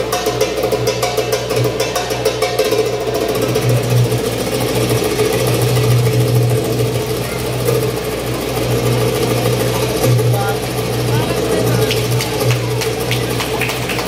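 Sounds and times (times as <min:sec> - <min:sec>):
loud low drone: 0:00.0 - 0:14.0.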